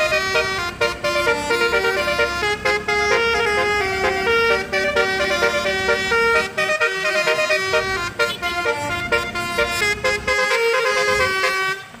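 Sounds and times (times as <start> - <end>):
multi-tone bus horn melody: 0.0 - 12.0.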